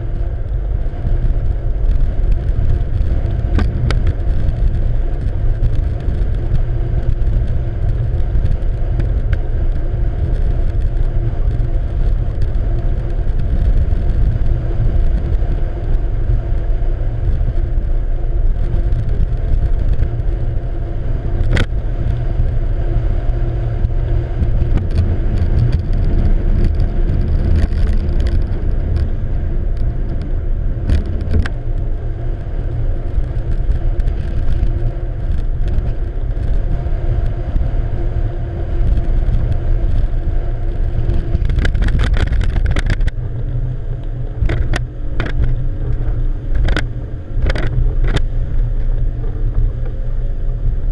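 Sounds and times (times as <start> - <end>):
wind rumble: 0.0 - 50.9.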